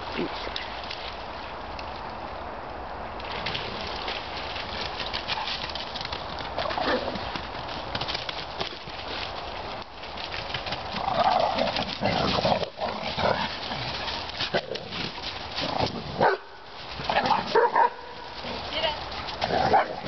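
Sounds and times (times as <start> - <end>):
paws crackling through dry leaves: 3.2 - 20.0.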